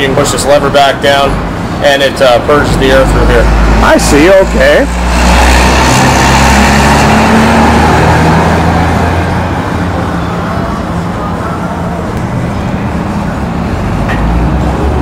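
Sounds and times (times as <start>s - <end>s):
motor vehicle passing by: 1.4s - 15.0s.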